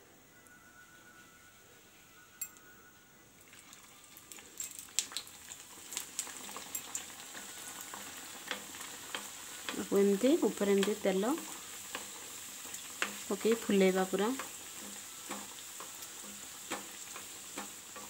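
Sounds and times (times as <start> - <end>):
oil popping and crackling: 3.4 - 18.0
pastry deep-frying in oil: 3.4 - 18.0.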